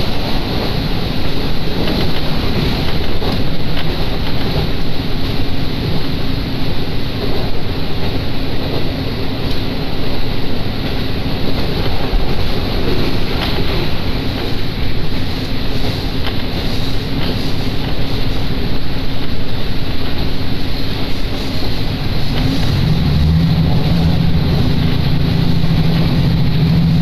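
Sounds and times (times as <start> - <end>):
railcar engine and wheels rumbling: 0.0 - 27.0.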